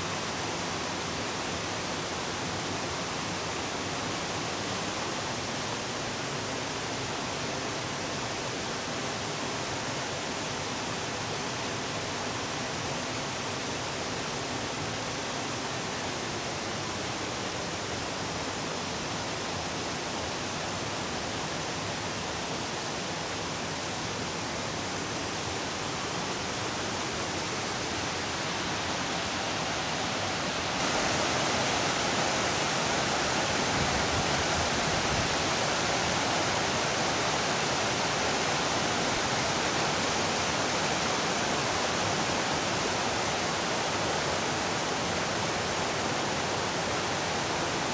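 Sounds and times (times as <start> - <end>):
creek running water: 0.0 - 47.9.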